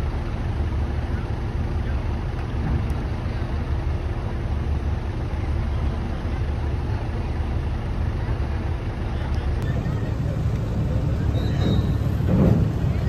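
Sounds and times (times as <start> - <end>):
cars driving off ramp: 0.0 - 13.0
ferry engines low rumble: 0.0 - 13.0.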